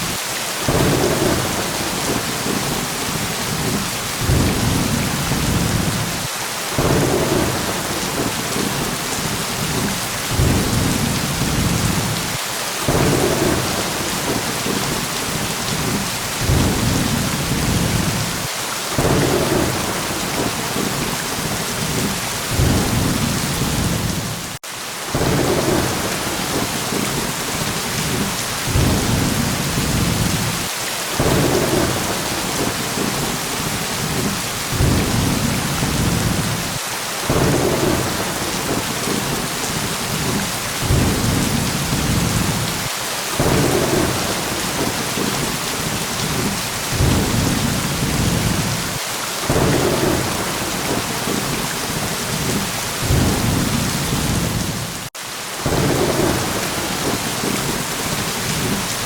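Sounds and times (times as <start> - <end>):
heavy rain hissing: 0.0 - 59.0
low thunder rumbles: 0.7 - 42.8, 43.4 - 58.9.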